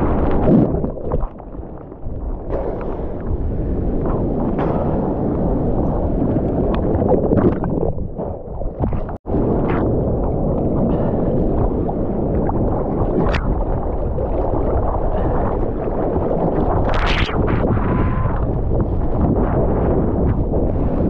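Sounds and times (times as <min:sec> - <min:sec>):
rushing water: 0:00.0 - 0:21.0
water splashes: 0:00.0 - 0:21.0
wind buffeting camera: 0:00.0 - 0:21.0.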